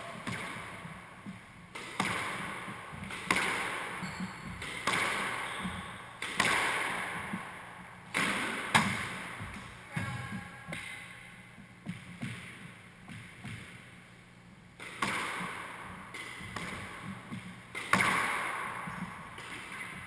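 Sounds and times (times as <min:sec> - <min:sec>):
squash ball hits echoing: 0:00.0 - 0:13.8, 0:14.8 - 0:20.0.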